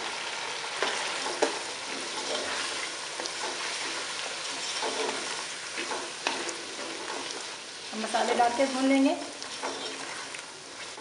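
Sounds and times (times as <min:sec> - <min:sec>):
chicken sizzling in a pot: 0:00.0 - 0:11.0
spatula stirring: 0:00.8 - 0:11.0.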